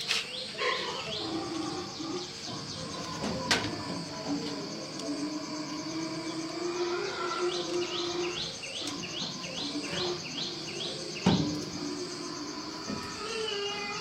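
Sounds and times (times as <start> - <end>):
insect drone: 0.0 - 14.0
bird chirping: 0.1 - 14.0.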